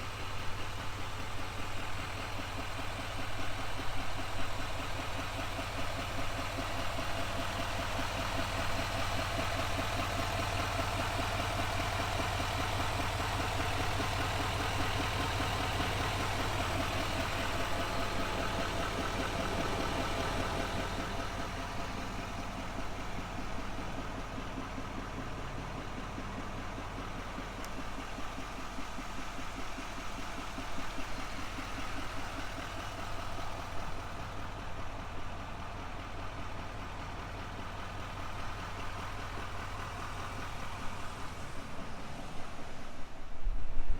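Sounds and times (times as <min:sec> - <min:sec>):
diesel engine idling: 0:00.0 - 0:43.3.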